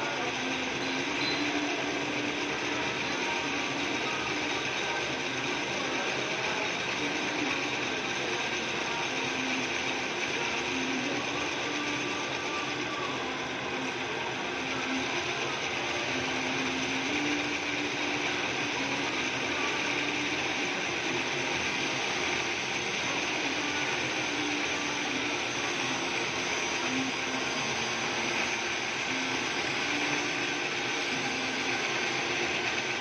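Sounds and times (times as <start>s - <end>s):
drill press boring metal: 0.0s - 33.0s.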